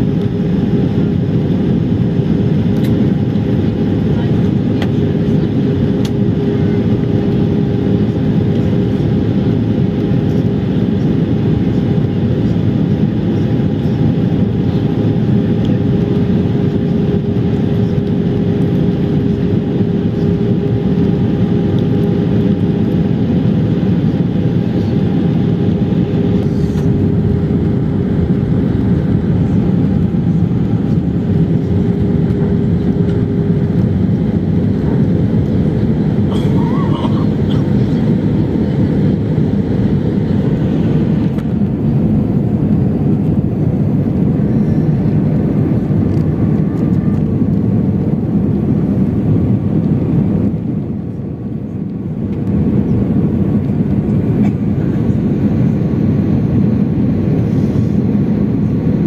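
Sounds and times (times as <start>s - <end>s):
airliner cabin airflow and engine drone: 0.0s - 59.0s.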